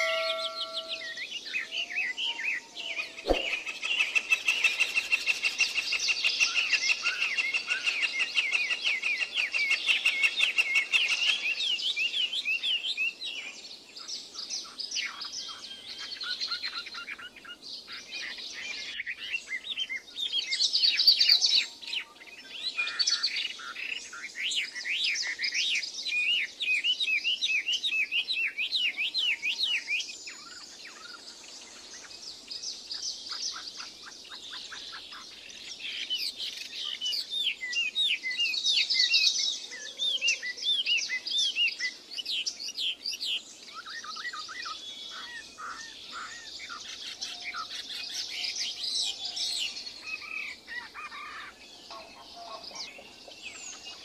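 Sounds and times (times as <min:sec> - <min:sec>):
songbirds singing and chirping: 0:00.0 - 0:54.0.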